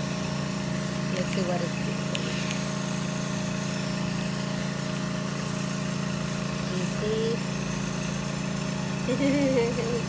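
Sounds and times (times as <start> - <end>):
loud machine drone: 0.0 - 10.0.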